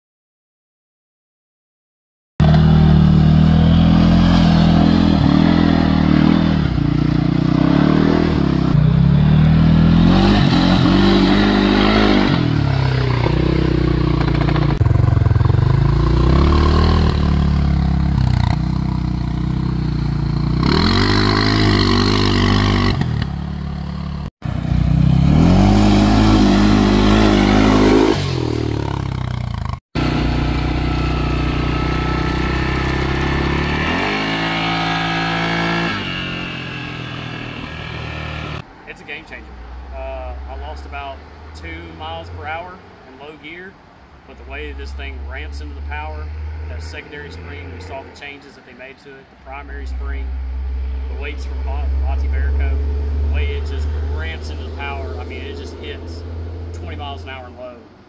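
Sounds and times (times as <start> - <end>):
atv engine revving: 2.4 - 38.7, 44.4 - 48.4, 49.5 - 57.7.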